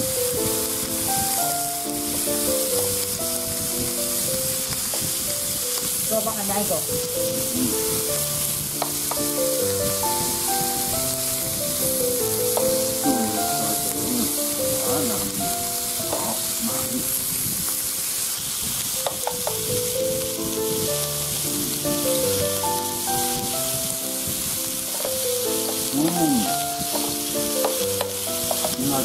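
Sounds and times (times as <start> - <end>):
background music: 0.0 - 17.3, 19.0 - 29.0
meat sizzling on grill: 0.0 - 29.0.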